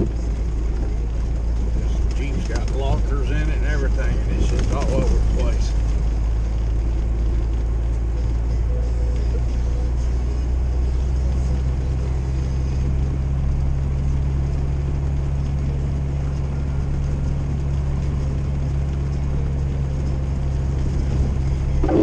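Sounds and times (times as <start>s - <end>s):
engine and drivetrain drone: 0.0s - 22.0s.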